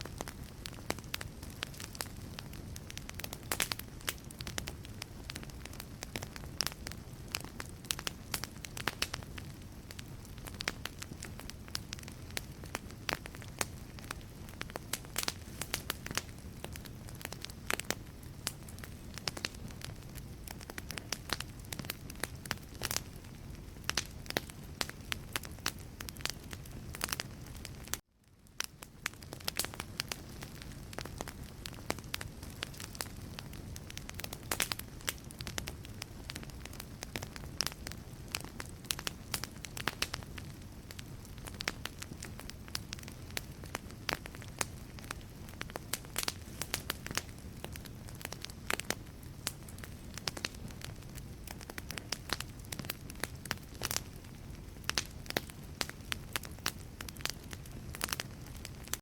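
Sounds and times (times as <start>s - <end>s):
fire flames rumbling: 0.0s - 59.0s
logs crackling and popping: 0.0s - 59.0s.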